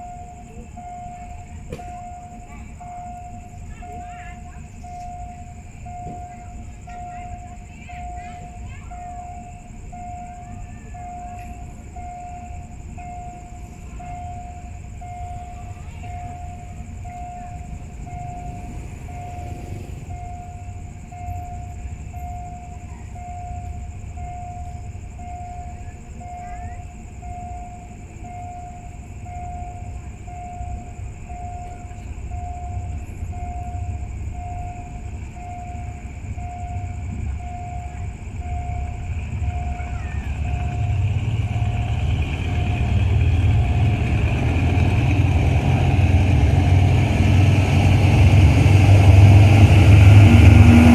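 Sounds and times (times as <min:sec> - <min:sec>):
diesel locomotive rumble: 0:00.0 - 0:50.9
level crossing signal beeping: 0:00.0 - 0:50.9.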